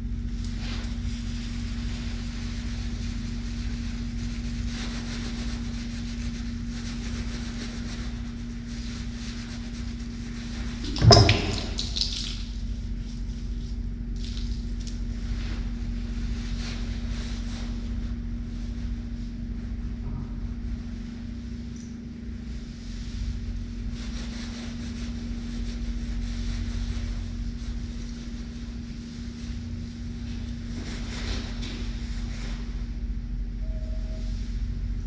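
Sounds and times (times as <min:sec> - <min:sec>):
ventilation fan hum: 0:00.0 - 0:35.0
sponge rubbing on face: 0:00.2 - 0:33.0.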